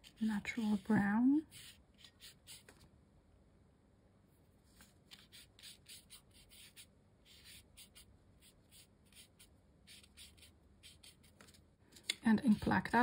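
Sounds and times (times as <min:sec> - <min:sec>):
paintbrush strokes on paper: 0:00.0 - 0:02.8, 0:04.6 - 0:11.6, 0:12.4 - 0:13.0.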